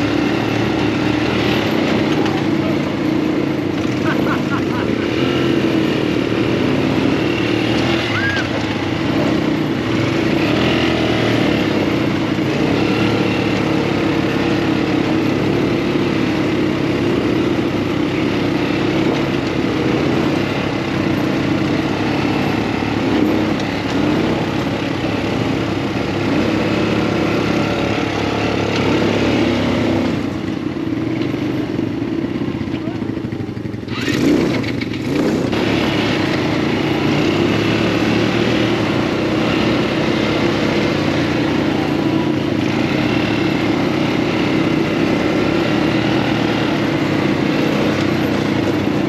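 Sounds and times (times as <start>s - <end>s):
buggy engine running: 0.0s - 49.0s.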